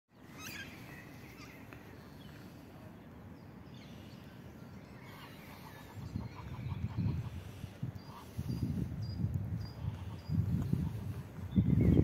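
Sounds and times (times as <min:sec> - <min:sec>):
distant birdsong chirps: 0:00.1 - 0:12.0.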